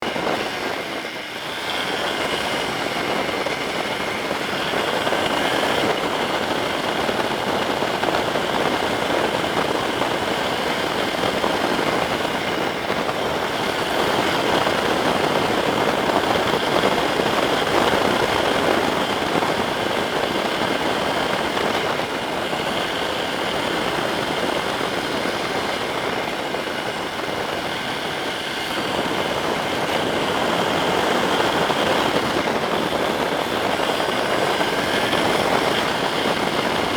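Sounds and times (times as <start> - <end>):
motorcycle engine running: 0.0 - 36.9
wind and road noise: 0.0 - 36.9.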